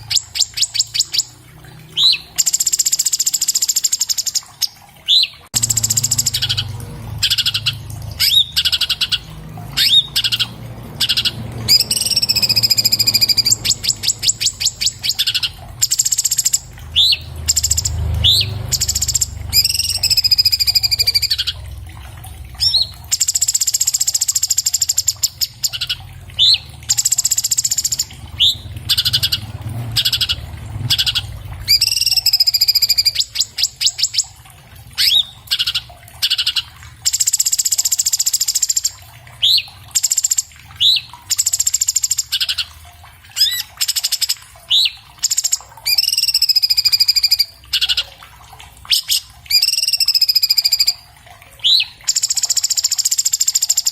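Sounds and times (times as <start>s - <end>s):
bird singing varied song: 0.0s - 21.6s, 22.6s - 34.4s, 35.0s - 42.7s, 43.4s - 48.1s, 48.9s - 51.0s, 51.6s - 53.9s.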